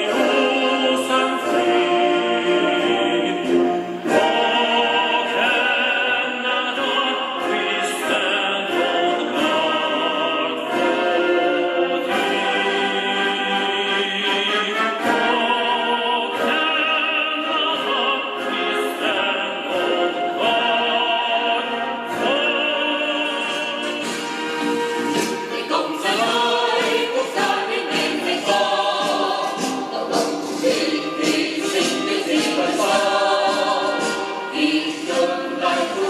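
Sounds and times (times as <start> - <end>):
orchestra with choir singing: 0.0 - 36.0.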